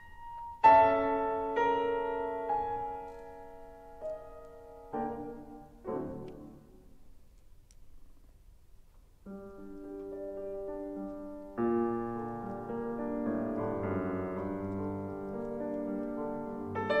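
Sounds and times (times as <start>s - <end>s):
solo piano: 0.0s - 7.4s, 9.2s - 17.0s.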